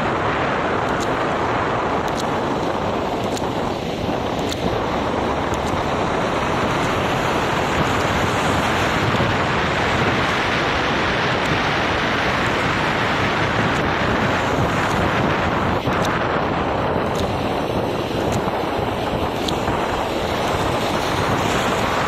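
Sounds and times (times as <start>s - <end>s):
rain and tyres on wet road: 0.0s - 22.0s
wind buffeting the microphone: 0.0s - 22.0s.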